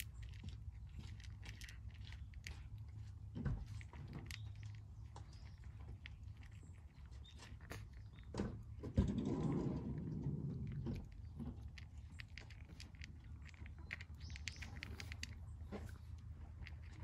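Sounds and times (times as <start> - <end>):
cat crunching dry kibble: 0.0 - 17.0.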